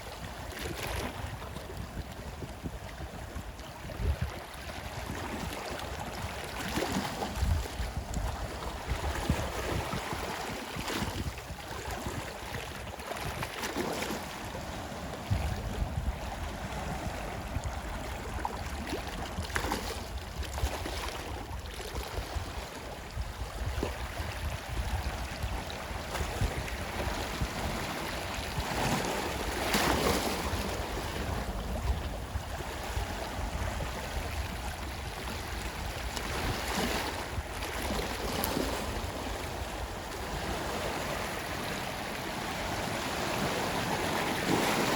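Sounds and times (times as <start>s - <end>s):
sea waves washing on shore: 0.0s - 44.9s.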